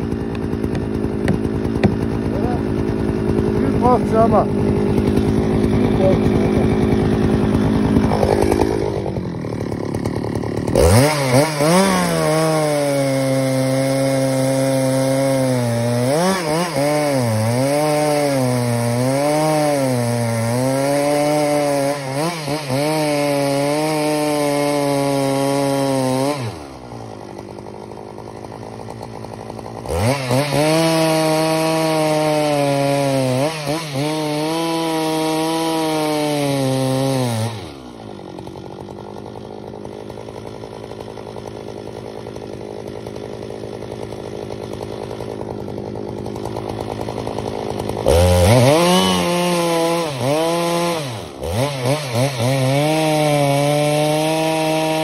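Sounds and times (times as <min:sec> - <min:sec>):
chainsaw cutting wood: 0:00.0 - 0:55.0
chainsaw idling: 0:00.0 - 0:55.0
chainsaw throttle blips: 0:00.0 - 0:55.0.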